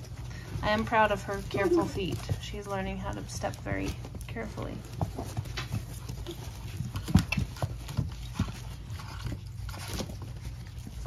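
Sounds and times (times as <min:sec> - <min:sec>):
puppies suckling: 0:00.0 - 0:11.0
small knocks and shuffles: 0:00.0 - 0:11.0.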